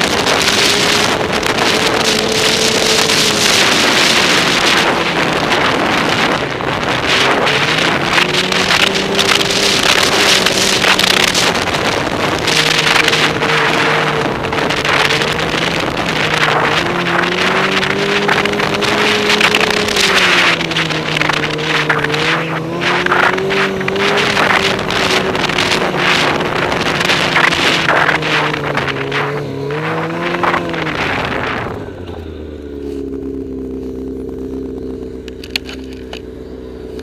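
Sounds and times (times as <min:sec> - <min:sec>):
track rushing over snow: 0:00.0 - 0:34.3
snowmobile engine: 0:00.0 - 0:37.0.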